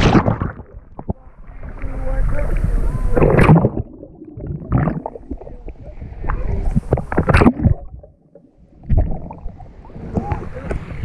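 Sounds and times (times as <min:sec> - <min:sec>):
muffled underwater splashes: 0:00.0 - 0:11.0.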